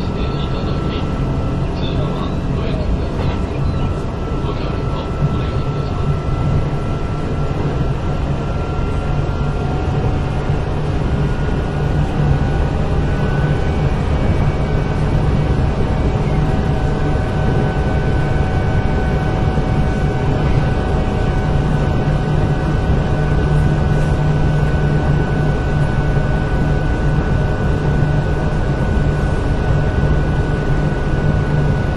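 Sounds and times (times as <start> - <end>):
faint high whine: 0.0 - 31.9.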